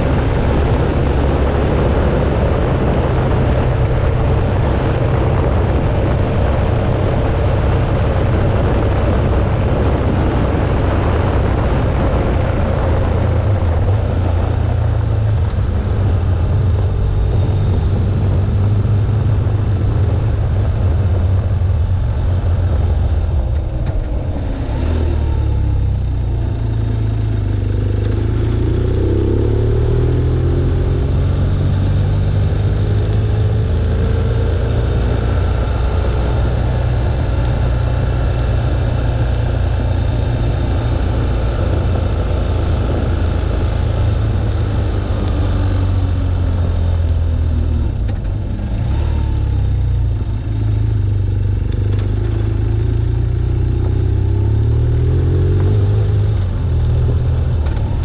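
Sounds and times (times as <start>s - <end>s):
motorcycle engine running: 0.0s - 58.0s
wind rushing past microphone: 0.0s - 58.0s.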